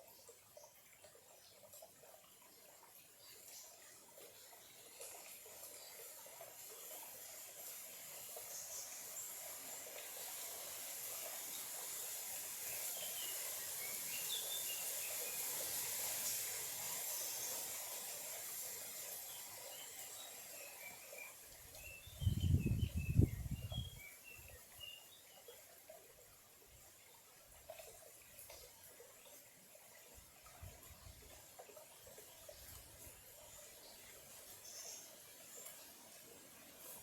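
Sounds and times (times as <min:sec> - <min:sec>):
stream trickling: 0:00.0 - 0:37.0.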